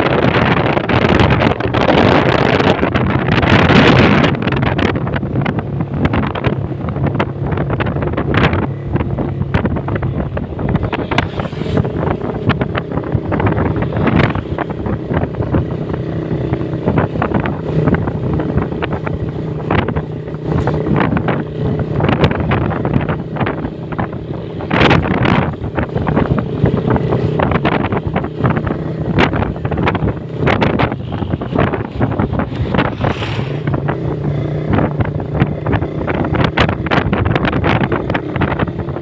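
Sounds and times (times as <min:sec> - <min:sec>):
motorcycle engine cruising: 0:00.0 - 0:39.0
wind buffeting microphone: 0:00.0 - 0:39.0.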